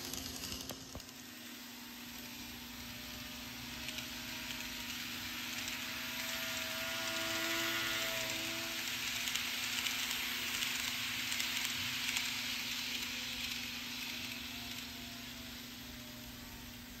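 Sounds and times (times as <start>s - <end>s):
faint motor hum: 0.0s - 17.0s
model train wheels rattling on rail: 0.0s - 17.0s.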